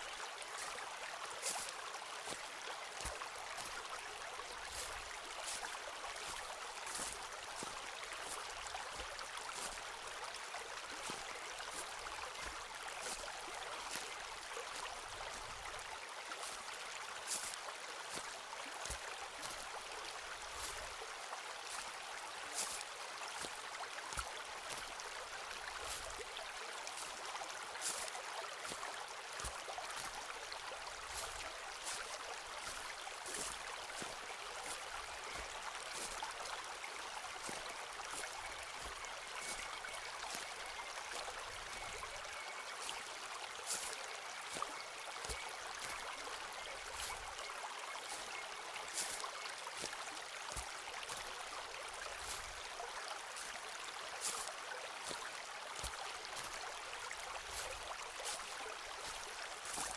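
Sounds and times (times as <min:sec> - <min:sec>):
footsteps crunching on trail: 0:00.0 - 0:59.9
stream running: 0:00.0 - 0:59.9.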